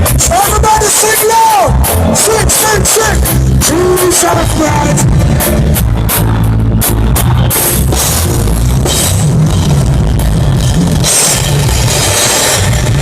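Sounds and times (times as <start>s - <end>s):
heavy bass line: 0.0s - 13.0s
live band music: 0.0s - 13.0s.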